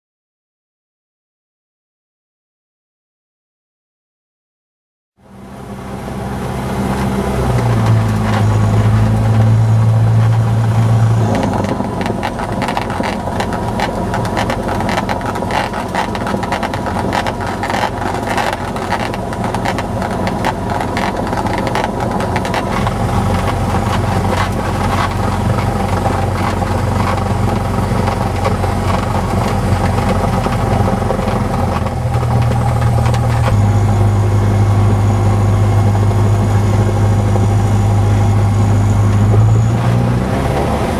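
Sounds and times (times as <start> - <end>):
airplane engine and propeller: 5.2 - 40.9
rattling in cockpit: 6.4 - 39.7.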